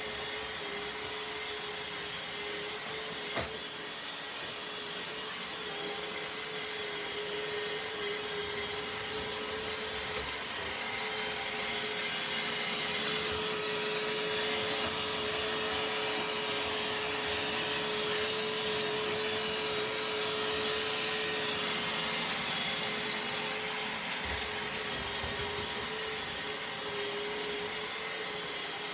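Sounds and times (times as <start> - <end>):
robot vacuum cleaner humming: 0.0 - 28.9.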